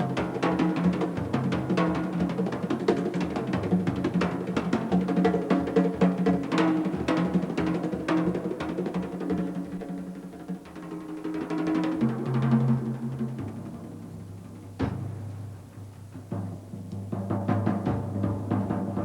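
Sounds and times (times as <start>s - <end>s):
busy drums and percussion: 0.0s - 19.0s.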